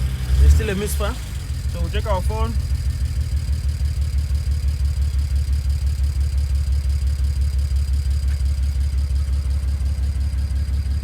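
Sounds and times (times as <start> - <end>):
car engine idling roughly: 0.0 - 11.0.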